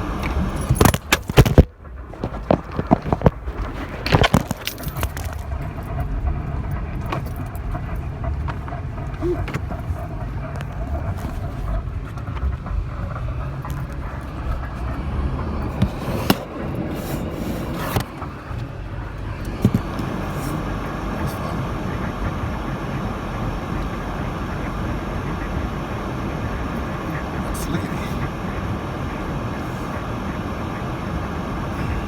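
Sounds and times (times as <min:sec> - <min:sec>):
tyres and engine rumble: 0:00.0 - 0:32.0.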